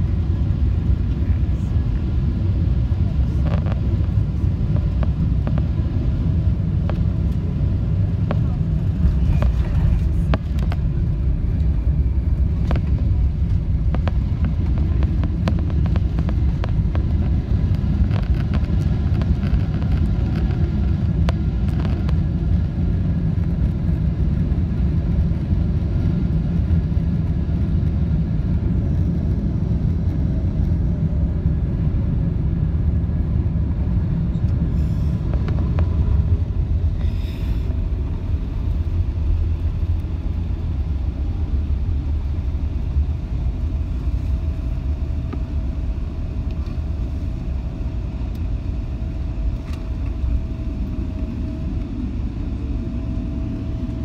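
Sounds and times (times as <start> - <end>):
aircraft cabin low rumble: 0.0 - 54.0.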